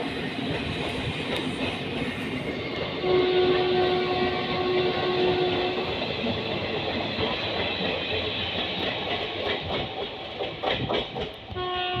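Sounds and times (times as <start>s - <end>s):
train coaches rumbling over rail joints: 0.0s - 12.0s.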